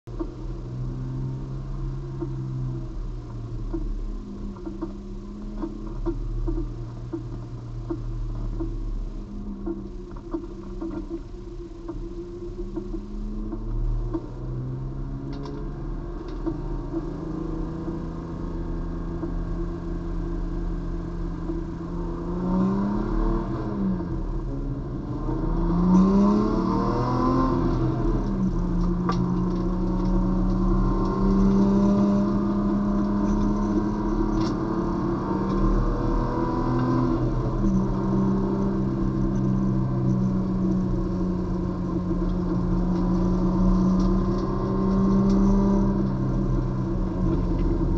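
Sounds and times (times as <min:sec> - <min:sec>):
race car engine accelerating: 0:00.1 - 0:47.9.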